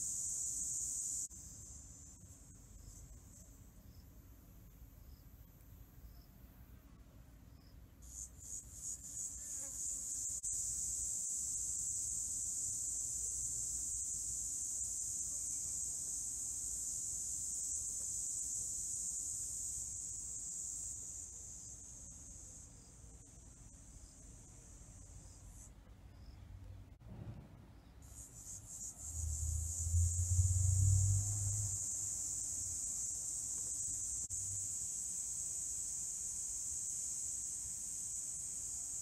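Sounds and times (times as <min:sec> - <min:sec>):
high-pitched insect trill: 0:00.0 - 0:04.1, 0:07.6 - 0:26.4, 0:28.0 - 0:39.0.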